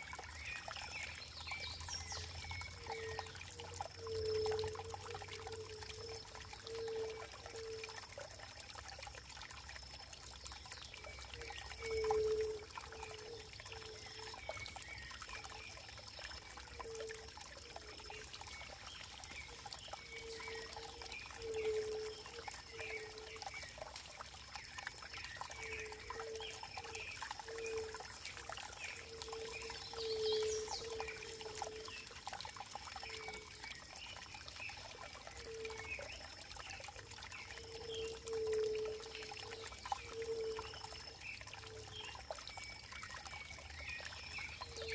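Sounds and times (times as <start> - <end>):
water trickling and pouring: 0.0 - 44.9.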